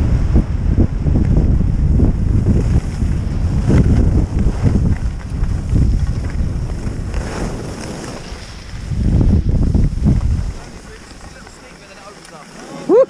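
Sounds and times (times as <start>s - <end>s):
wind buffeting microphone: 0.0s - 12.2s
skis scraping on hard snow: 2.2s - 13.0s.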